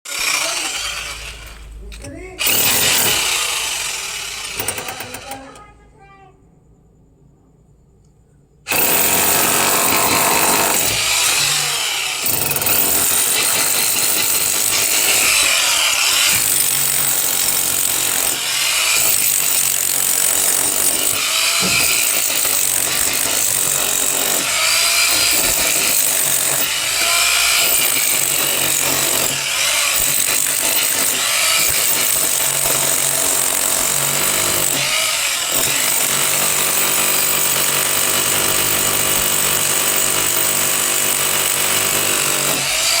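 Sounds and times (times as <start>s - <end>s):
electric power tool running: 0.1s - 1.8s, 2.4s - 5.6s, 8.7s - 39.1s.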